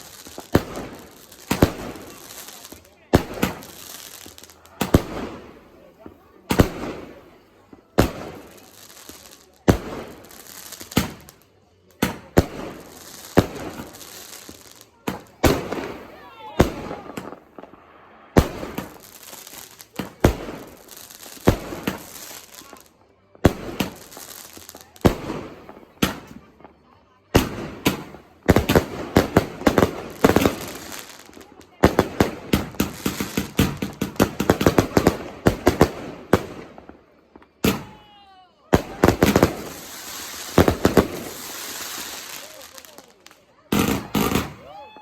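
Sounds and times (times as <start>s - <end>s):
fireworks bangs: 0.0s - 45.0s
fireworks pops and crackling: 0.0s - 45.0s.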